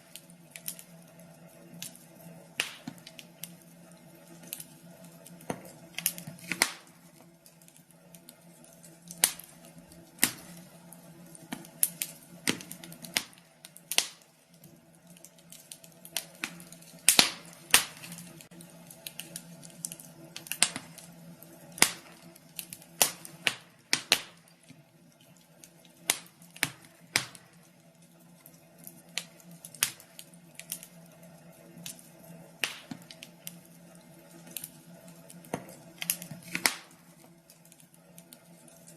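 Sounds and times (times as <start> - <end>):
low steady hum: 0.0 - 38.9
wood fire crackling: 0.0 - 38.9.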